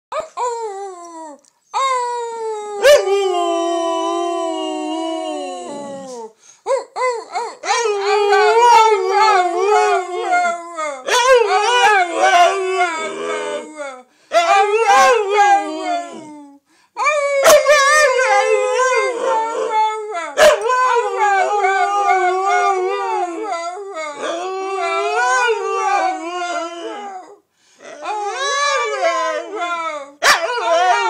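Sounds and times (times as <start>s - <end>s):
wolf-dog howling: 2.8s - 6.3s, 7.6s - 31.0s.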